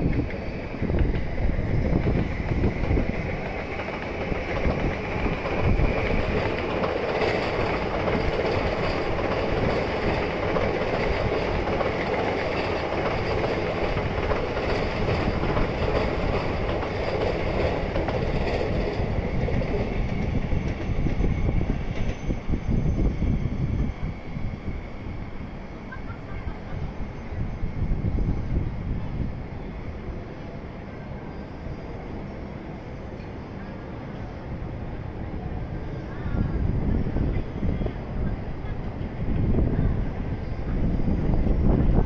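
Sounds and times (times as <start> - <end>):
electric train passing: 0.0 - 42.0.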